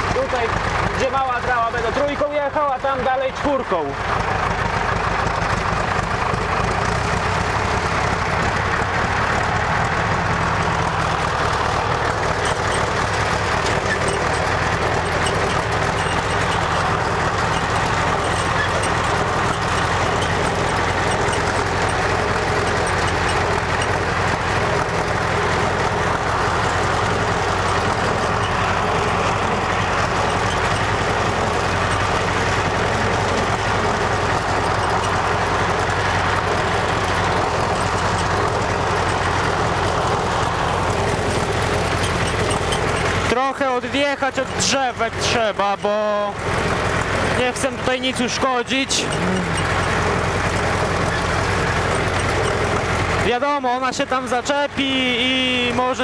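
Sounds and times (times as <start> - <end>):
sprayer pump running: 0.0 - 56.0
tractor engine running: 0.0 - 56.0.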